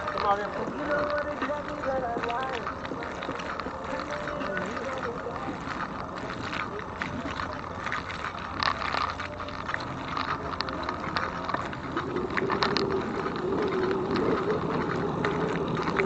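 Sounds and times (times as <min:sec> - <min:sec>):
tyres and wind rushing: 0:00.0 - 0:16.0.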